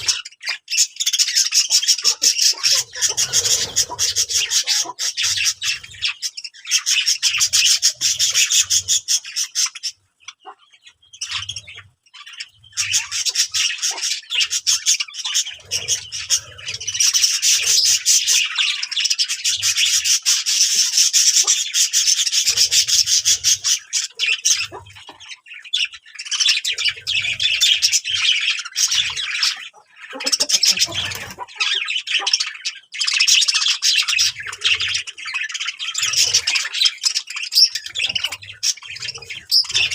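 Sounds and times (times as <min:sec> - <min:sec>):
bird squawks: 0:00.0 - 0:39.9
birds chirping and chattering: 0:00.0 - 0:39.9.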